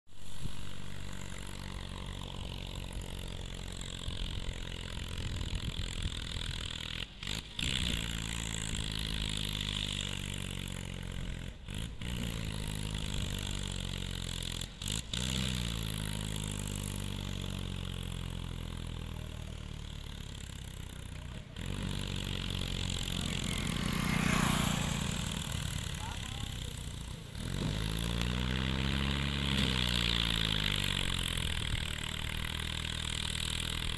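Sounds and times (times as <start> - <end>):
vehicle engine running: 0.1 - 33.9.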